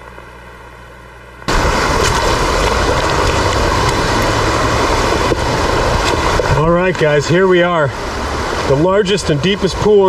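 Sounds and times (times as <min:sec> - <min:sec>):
water rushing over rocks: 0:01.4 - 0:10.0.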